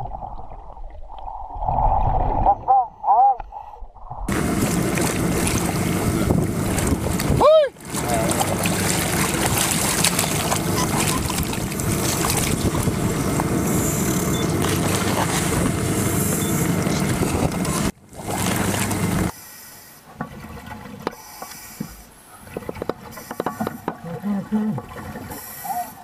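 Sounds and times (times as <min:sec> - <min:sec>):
underwater clicks and bubbling: 0:03.4 - 0:19.3, 0:20.2 - 0:26.0.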